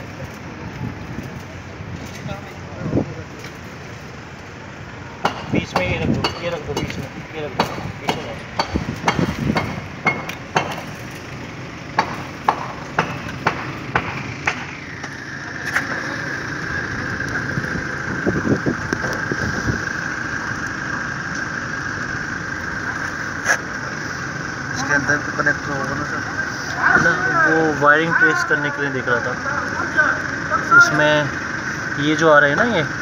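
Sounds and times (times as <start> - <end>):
high-pitched mechanical whine: 0.0 - 33.0.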